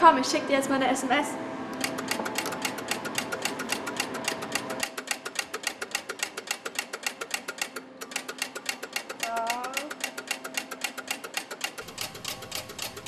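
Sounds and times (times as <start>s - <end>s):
telegraph ticking: 1.8s - 13.0s.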